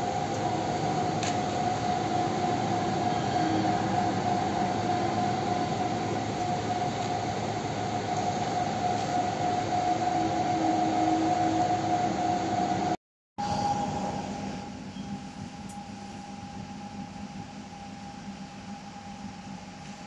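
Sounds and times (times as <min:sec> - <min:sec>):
blower fans whining and humming: 0:00.0 - 0:20.0.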